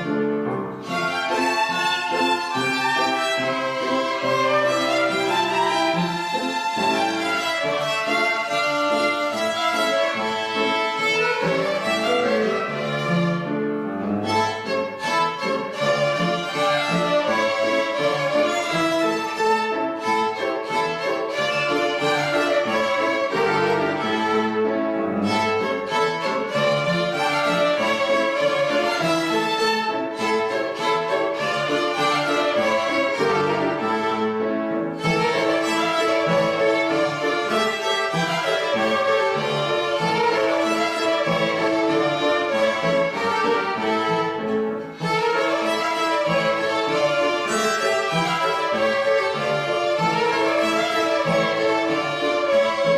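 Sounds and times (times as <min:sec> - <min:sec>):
violin ensemble playing: 0:00.0 - 0:52.9.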